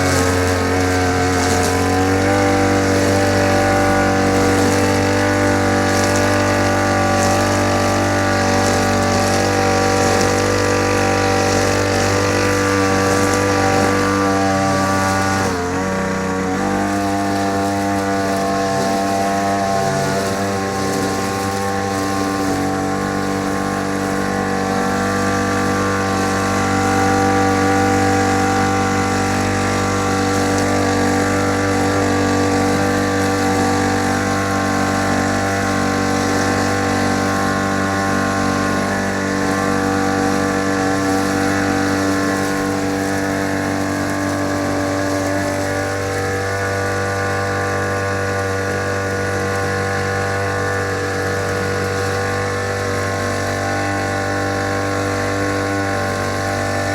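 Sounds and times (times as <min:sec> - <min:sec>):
lawn mower engine running: 0:00.0 - 0:56.9.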